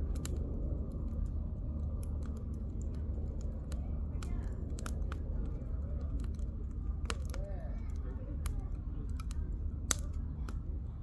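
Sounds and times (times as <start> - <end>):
campfire crackling: 0.0 - 11.0
low rumble of fire: 0.0 - 11.0.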